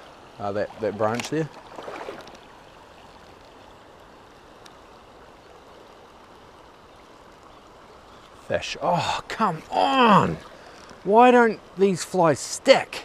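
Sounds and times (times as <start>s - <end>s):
river running over gravel: 0.0s - 13.0s.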